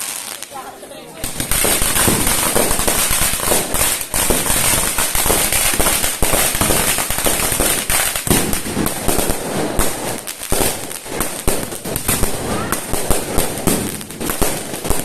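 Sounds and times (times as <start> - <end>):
fireworks and firecrackers bangs: 0.0 - 15.0.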